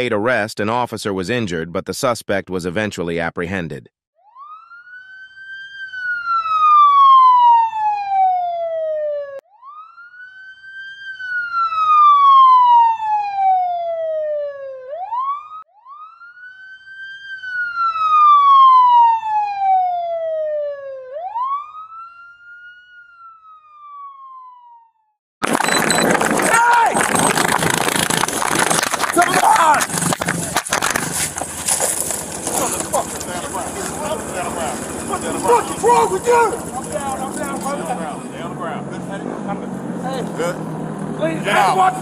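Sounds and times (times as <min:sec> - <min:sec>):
police siren wailing: 0:04.2 - 0:42.0.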